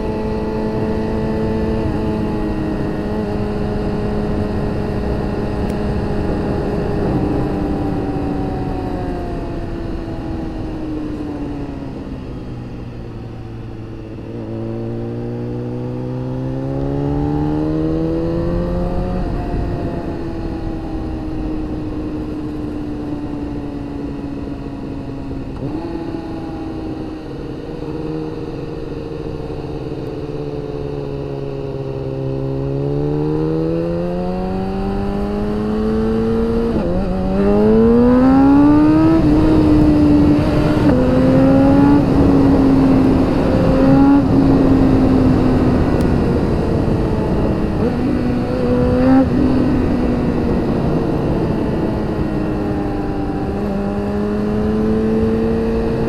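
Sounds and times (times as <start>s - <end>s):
wind rush: 0.0s - 32.4s, 33.2s - 56.0s
motorcycle engine revving: 0.0s - 56.0s.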